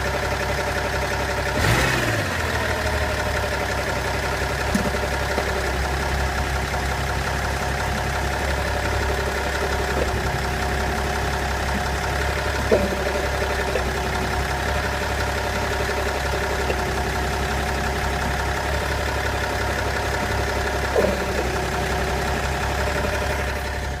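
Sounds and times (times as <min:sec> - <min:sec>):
diesel engine idling: 0:00.0 - 0:24.0
short high-pitched engine noises: 0:01.5 - 0:24.0.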